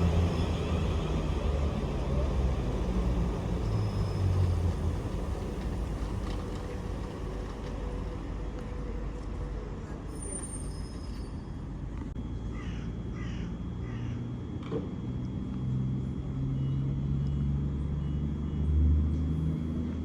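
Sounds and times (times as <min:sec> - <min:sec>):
train rumbling through station: 0:00.0 - 0:20.0.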